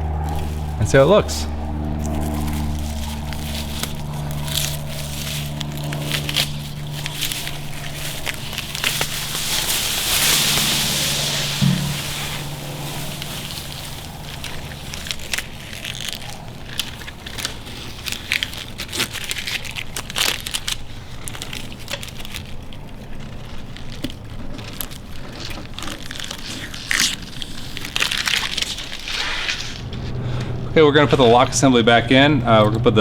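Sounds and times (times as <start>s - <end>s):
tape peeling and crumpling: 1.6s - 24.9s, 25.5s - 30.2s.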